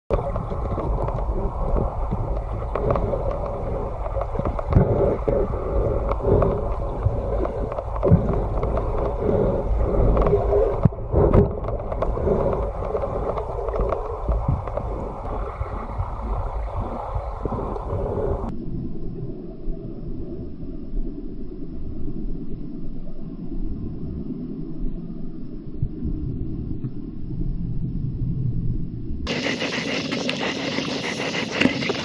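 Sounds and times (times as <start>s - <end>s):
muffled underwater rumble: 0.1s - 32.0s.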